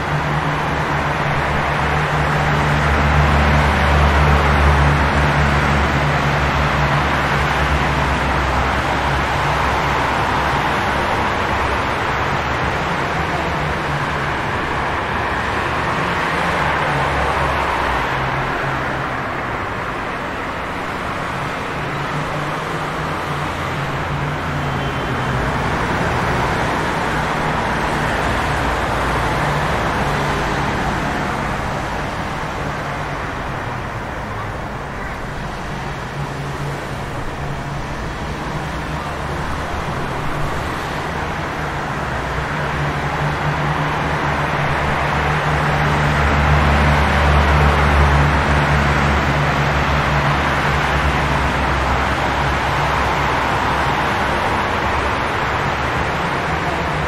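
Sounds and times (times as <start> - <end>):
low hum of engines: 0.0 - 57.0
tyres on wet pavement: 0.0 - 57.0.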